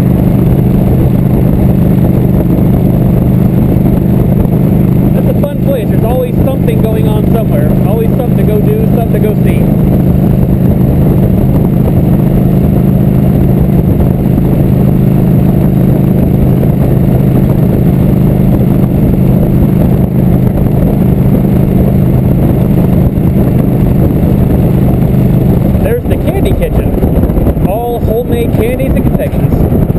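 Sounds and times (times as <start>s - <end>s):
motorcycle engine cruising: 0.0s - 29.9s
road noise: 0.0s - 29.9s.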